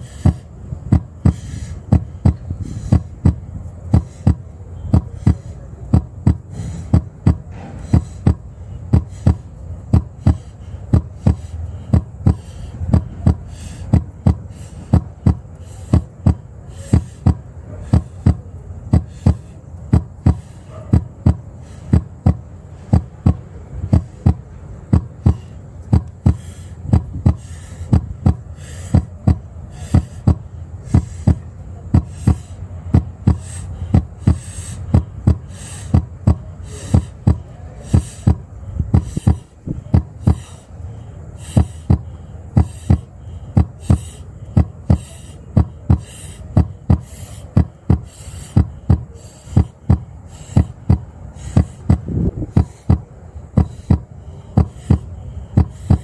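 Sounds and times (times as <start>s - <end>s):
heartbeat thumps: 0.0s - 40.6s, 41.5s - 56.0s.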